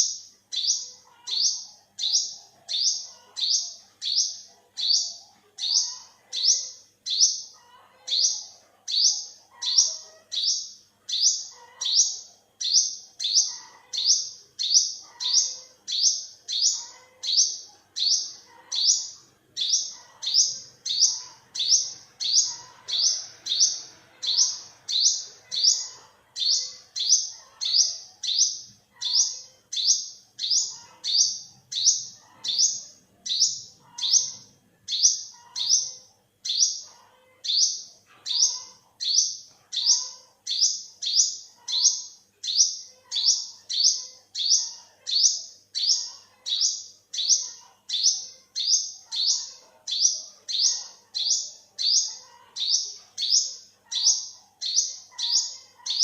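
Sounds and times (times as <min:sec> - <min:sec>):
bird chirping high-pitched: 0:00.0 - 0:56.0.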